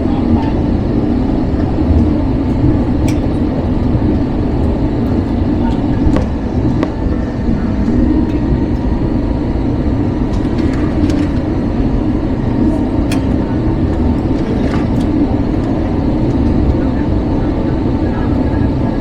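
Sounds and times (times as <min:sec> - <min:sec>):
airliner cabin engine noise: 0:00.0 - 0:19.0.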